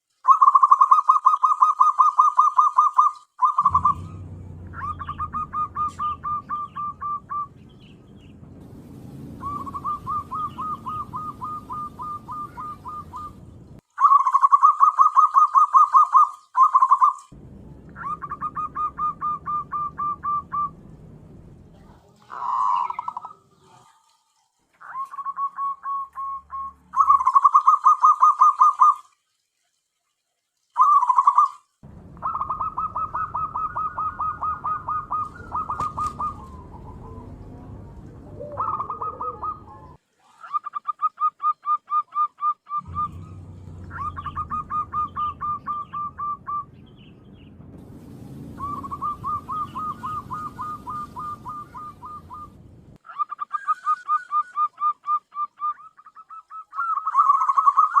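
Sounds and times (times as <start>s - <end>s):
dove calling: 0.2s - 17.3s, 17.9s - 21.2s, 22.2s - 24.0s, 24.8s - 29.0s, 30.8s - 58.0s.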